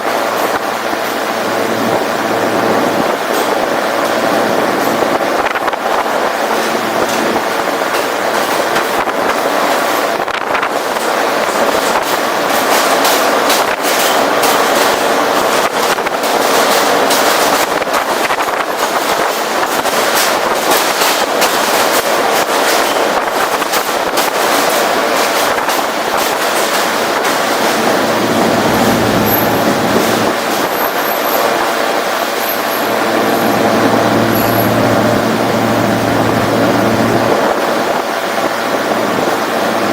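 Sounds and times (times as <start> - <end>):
train wheels on rails rushing: 0.0 - 39.9.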